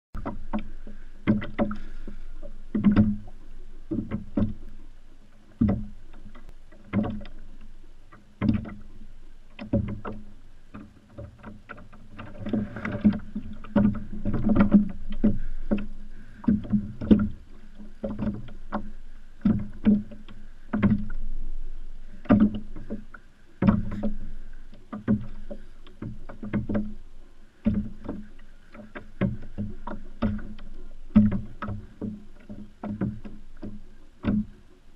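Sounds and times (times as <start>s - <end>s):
water slapping kayak hull: 0.2s - 34.9s.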